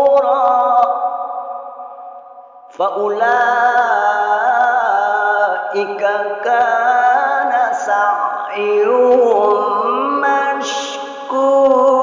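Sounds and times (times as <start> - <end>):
man reciting melodically: 0.0 - 1.6, 2.8 - 12.0.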